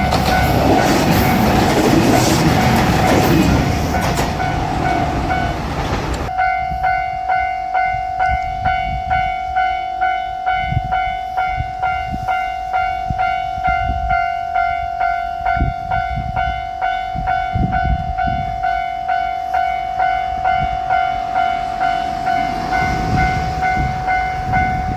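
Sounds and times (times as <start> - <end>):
level-crossing warning bell: 0.0 - 24.9
passing diesel train rushing: 0.0 - 24.9.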